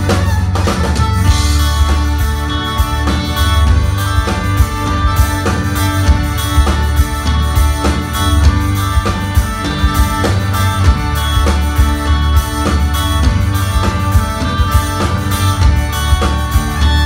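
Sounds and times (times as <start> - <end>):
acoustic and electric guitars: 0.0 - 17.0
drum kit beat: 0.0 - 17.0
keyboard playing: 0.0 - 17.0.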